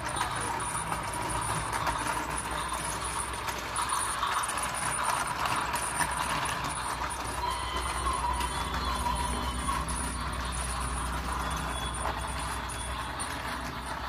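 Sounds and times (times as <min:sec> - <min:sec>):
toy train motor rattling: 0:00.0 - 0:14.0
toy train sound effects: 0:00.0 - 0:14.0.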